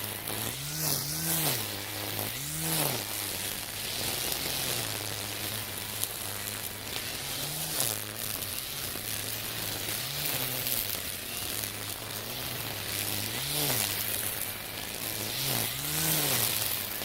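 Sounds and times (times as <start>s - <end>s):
brush cutter motor humming: 0.0s - 17.0s
trimmer line slashing through grass: 0.1s - 17.0s.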